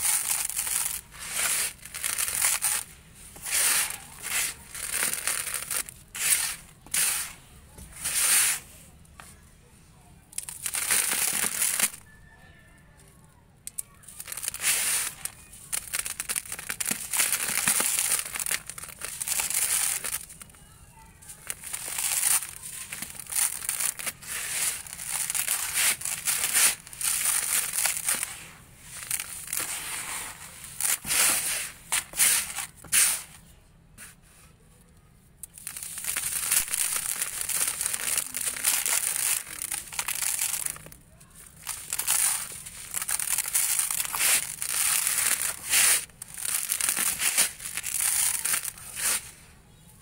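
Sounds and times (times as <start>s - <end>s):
sand grains pouring: 0.0s - 7.4s, 8.0s - 8.7s, 10.4s - 12.0s, 14.2s - 20.4s, 21.3s - 33.4s, 35.6s - 41.0s, 41.6s - 49.3s
sand clumps crumbling: 0.0s - 8.8s, 10.3s - 12.0s, 14.1s - 20.6s, 21.2s - 33.4s, 35.4s - 49.4s.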